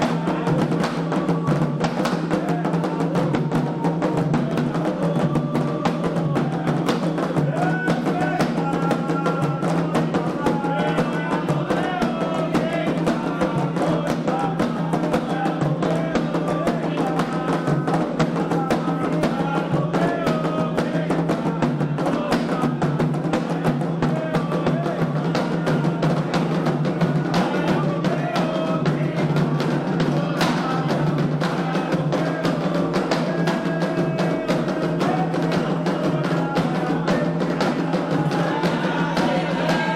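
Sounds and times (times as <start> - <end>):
hand drumming: 0.0 - 39.9
voices singing a chant: 0.0 - 39.9.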